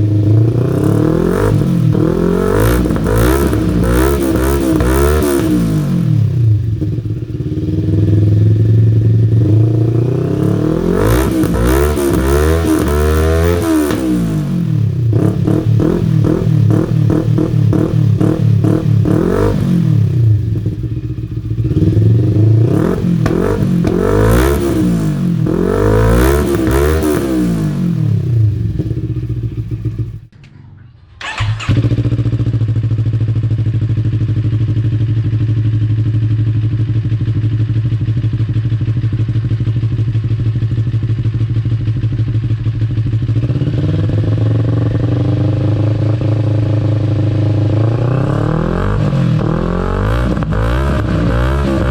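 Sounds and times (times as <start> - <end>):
motorcycle engine idling: 0.0 - 12.2, 14.2 - 48.3
motorcycle engine revving: 0.0 - 51.9.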